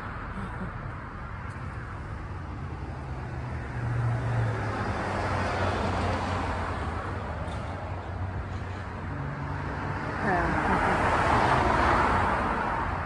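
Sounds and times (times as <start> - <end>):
road traffic noise: 0.0 - 13.0
car passing: 1.3 - 13.0.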